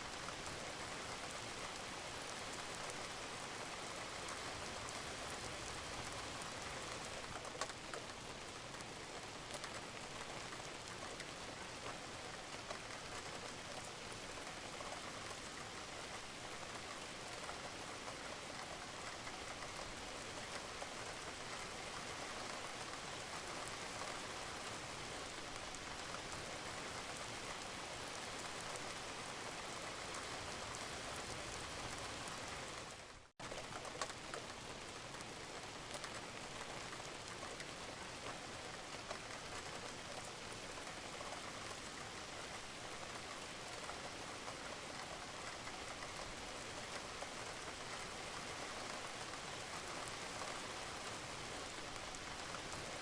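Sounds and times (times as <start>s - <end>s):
rain falling on a roof: 0.0s - 53.0s.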